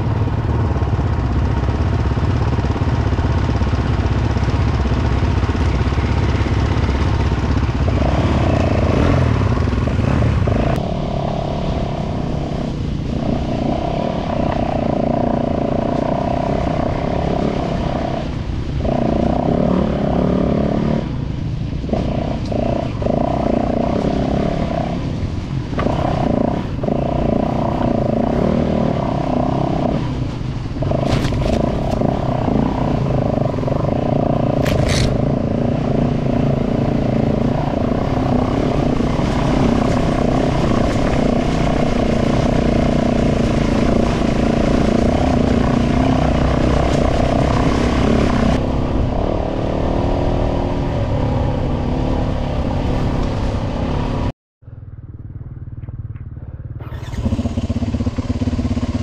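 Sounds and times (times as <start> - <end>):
motorcycle engine running: 0.0 - 52.9, 54.6 - 59.0.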